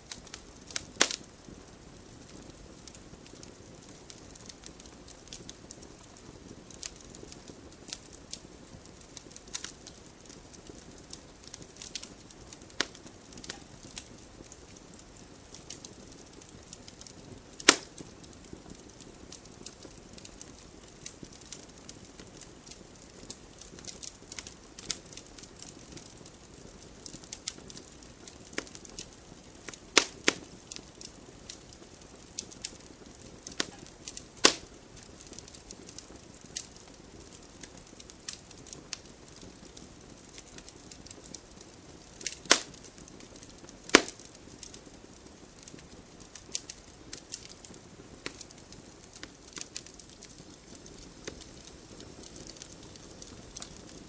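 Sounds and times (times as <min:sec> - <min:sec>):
burning logs crackling and popping: 0:00.0 - 0:54.0
fire hissing: 0:00.0 - 0:54.0.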